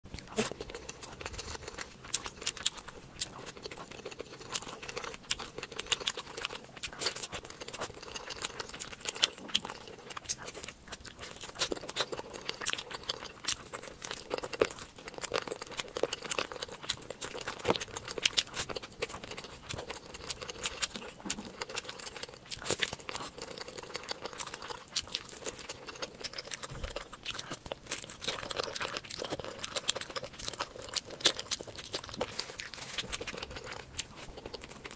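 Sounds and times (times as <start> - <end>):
person chewing and smacking: 0.1 - 34.9.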